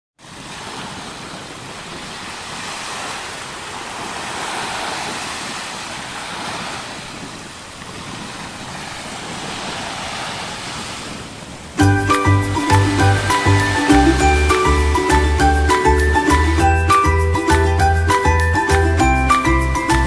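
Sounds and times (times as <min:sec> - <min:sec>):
ocean surf rushing: 0:00.2 - 0:20.0.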